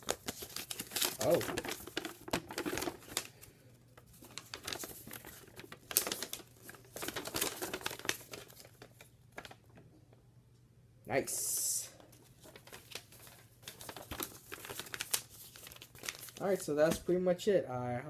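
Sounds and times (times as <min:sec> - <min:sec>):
paper crinkling and rustling: 0:00.0 - 0:09.8, 0:11.9 - 0:17.1.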